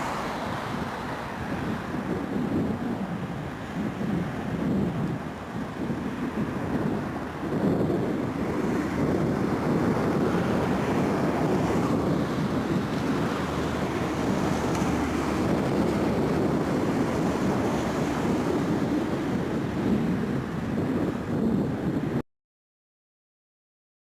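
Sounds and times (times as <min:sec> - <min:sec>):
jet engines at takeoff: 0:00.0 - 0:22.2
wind buffeting microphone: 0:00.0 - 0:22.2.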